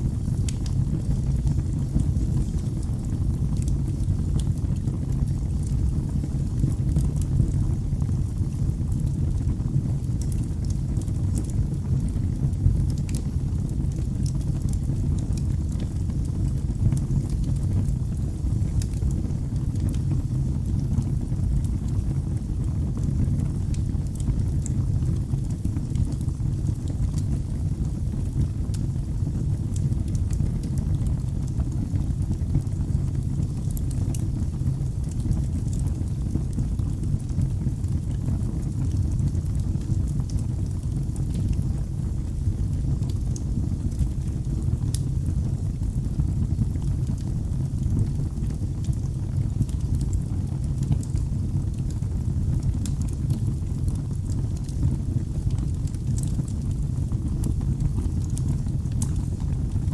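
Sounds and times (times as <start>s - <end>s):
fire crackling and popping: 0.0s - 59.9s
wood fire burning: 0.0s - 59.9s.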